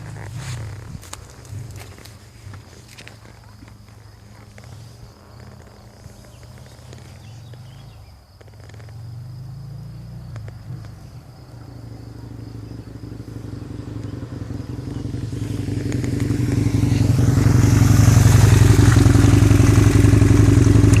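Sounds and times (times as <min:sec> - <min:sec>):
motorcycle engine approaching: 0:00.0 - 0:21.0.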